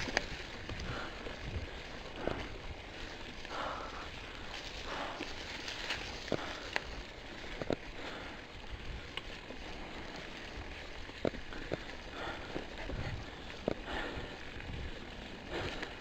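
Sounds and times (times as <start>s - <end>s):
bike clacking and rattling: 0.0s - 16.0s
bike tyres on dirt: 0.0s - 16.0s.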